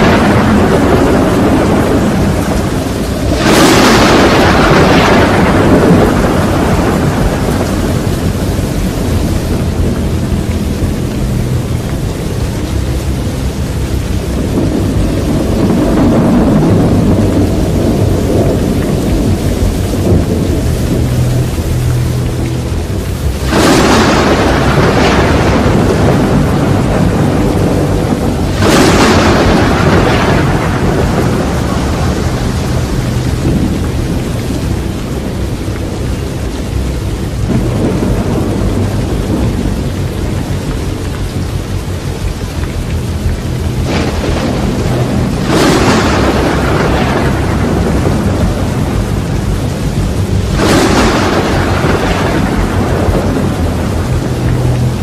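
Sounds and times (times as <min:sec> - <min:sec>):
breaking surf: 0:00.0 - 0:11.0, 0:14.2 - 0:35.7, 0:36.9 - 0:55.0
wind buffeting microphone: 0:00.0 - 0:55.0.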